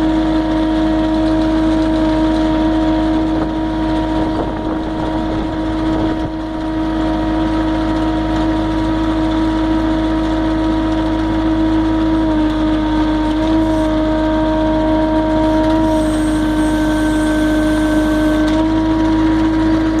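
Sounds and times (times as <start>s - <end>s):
hydraulic cutter whine: 0.0s - 9.3s, 11.2s - 20.0s
loader engine drone: 0.0s - 20.0s.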